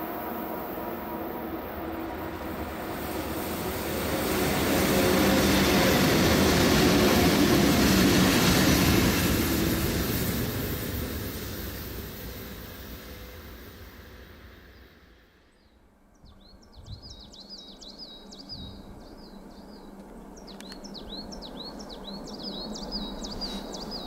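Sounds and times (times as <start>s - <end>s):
train passing by: 0.0s - 24.0s.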